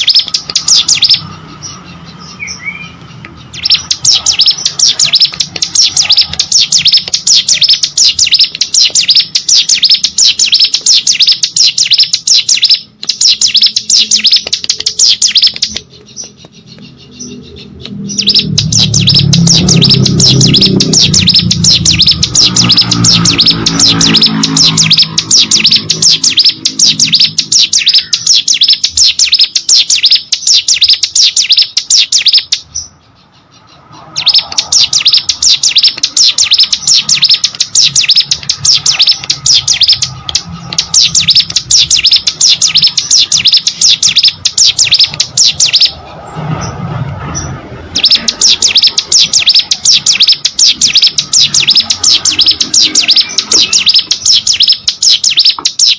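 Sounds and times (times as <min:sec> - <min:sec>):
songbird singing high sharp chirps: 0:00.0 - 0:46.0, 0:47.4 - 0:55.9.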